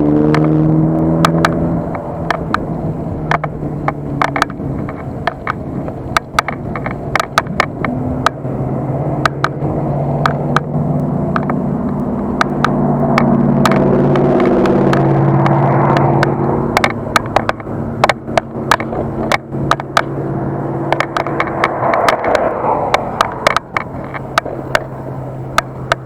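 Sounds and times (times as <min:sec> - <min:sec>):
steady humming tone: 0:00.0 - 0:26.0
wind and road rumble: 0:00.0 - 0:26.0
bicycle clicks and rattles: 0:01.2 - 0:08.5, 0:09.2 - 0:13.9, 0:14.5 - 0:26.0.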